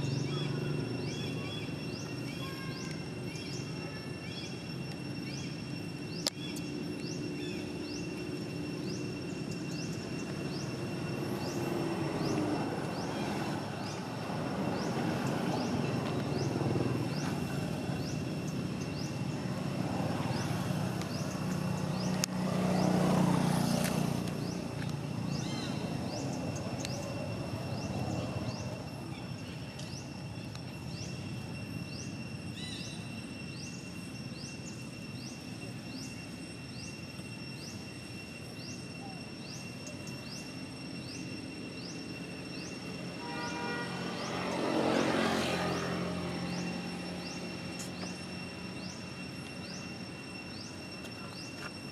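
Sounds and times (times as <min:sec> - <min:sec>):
steady high-pitched tone: 0:00.0 - 0:51.9.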